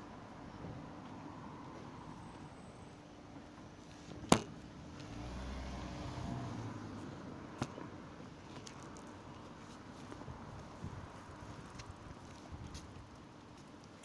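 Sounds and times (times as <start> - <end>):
vehicle engine rumble: 0.4 - 13.3.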